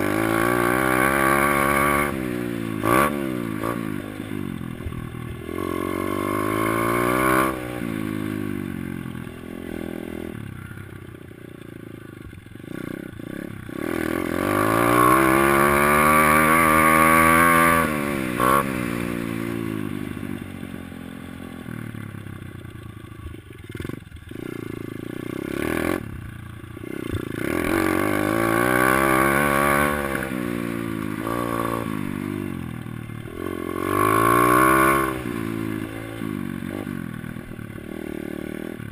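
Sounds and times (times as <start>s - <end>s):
dirt bike engine revving: 0.0s - 10.8s, 12.5s - 21.9s, 22.9s - 38.9s.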